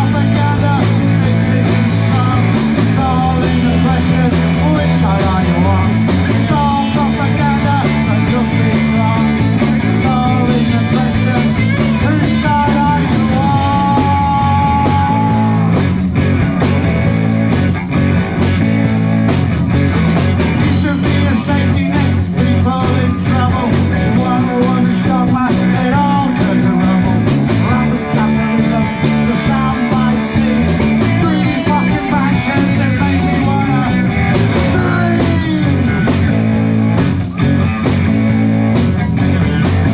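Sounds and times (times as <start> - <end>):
bending lead melody: 0.0 - 39.9
live rock band playing: 0.0 - 39.9.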